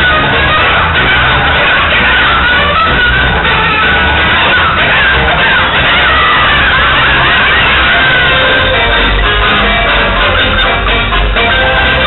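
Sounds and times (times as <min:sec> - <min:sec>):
loud live stage music: 0:00.0 - 0:12.0
sliding wailing tones: 0:00.0 - 0:12.0.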